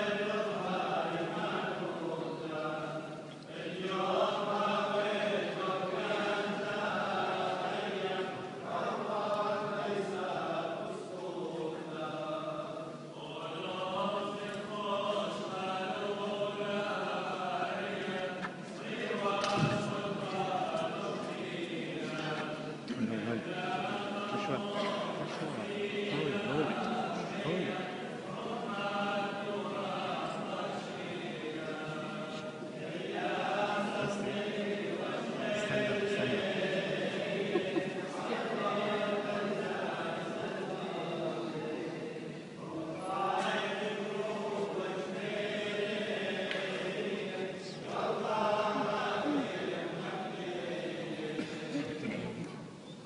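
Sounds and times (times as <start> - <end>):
voices singing a chant: 0.0 - 52.5.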